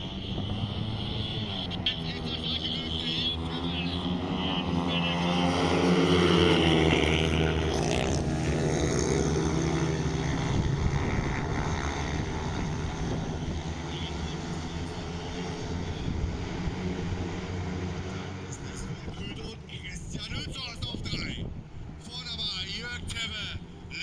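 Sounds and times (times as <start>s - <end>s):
racing motorcycles passing: 0.0s - 24.0s.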